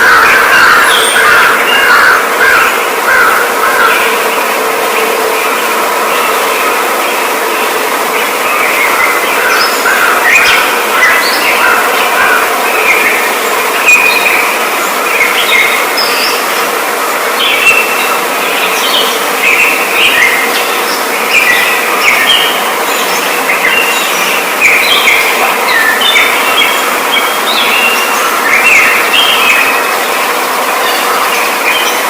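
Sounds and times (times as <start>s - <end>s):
birds chirping in chorus: 0.0s - 32.0s
faint steady hum: 0.0s - 32.0s.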